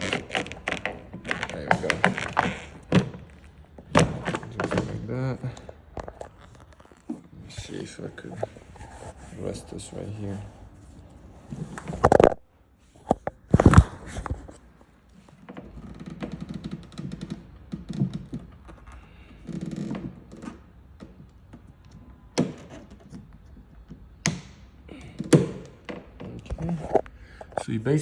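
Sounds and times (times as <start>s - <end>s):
rustling and scraping: 0.0s - 21.8s, 25.0s - 27.9s.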